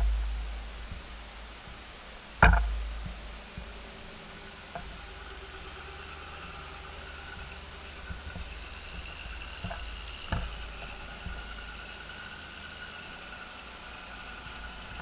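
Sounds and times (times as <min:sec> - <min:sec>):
engine idling: 0:00.0 - 0:15.0
short engine knocks: 0:02.4 - 0:15.0.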